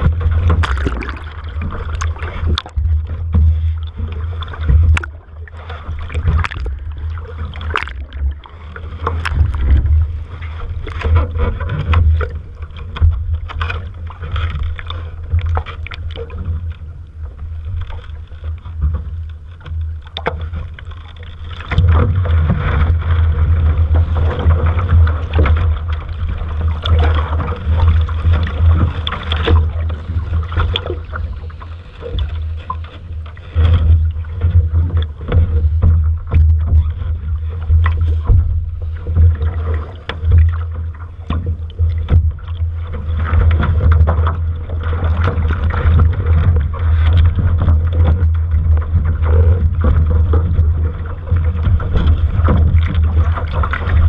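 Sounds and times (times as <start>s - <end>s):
water splashing around boat: 0.0s - 54.0s.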